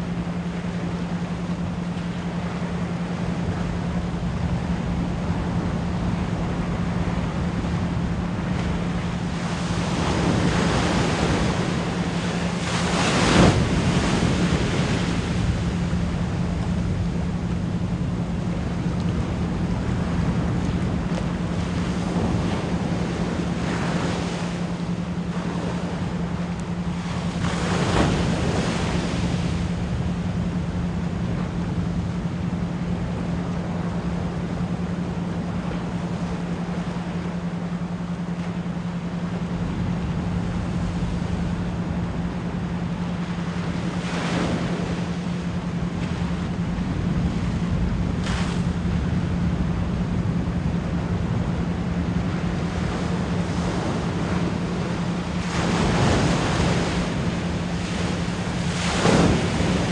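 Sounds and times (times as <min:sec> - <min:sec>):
ocean waves washing in: 0:00.0 - 0:59.9
steady pure tone: 0:00.0 - 0:59.9.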